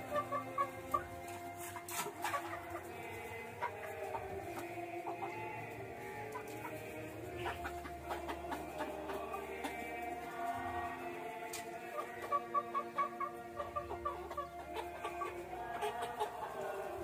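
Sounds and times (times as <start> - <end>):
background music with held notes: 0.0 - 17.0
chickens clucking: 0.0 - 17.0.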